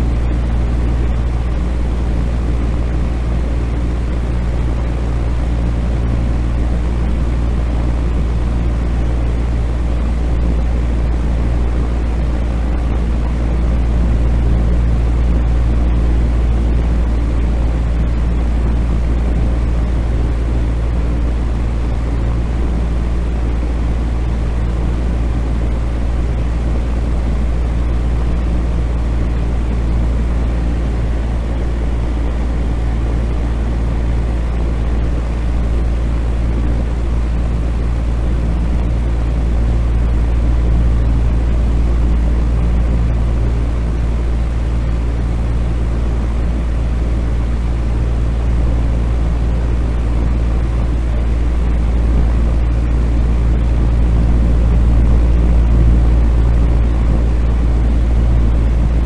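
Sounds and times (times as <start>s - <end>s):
electric fan running: 0.0s - 59.0s.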